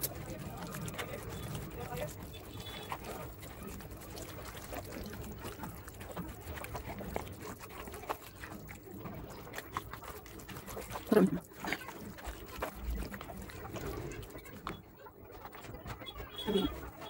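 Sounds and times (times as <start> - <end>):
wet squelches of marinade: 0.0 - 17.0.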